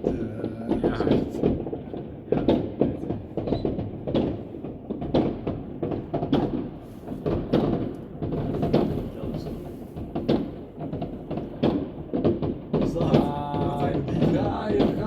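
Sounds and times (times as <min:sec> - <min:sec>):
distant fireworks crackling and banging: 0:00.0 - 0:15.0.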